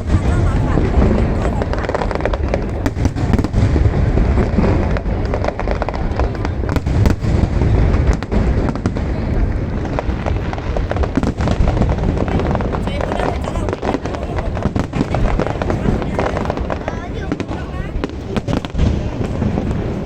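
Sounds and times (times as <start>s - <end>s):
deep booming rumble: 0.0s - 20.0s
fireworks cracks and bangs: 0.0s - 20.0s.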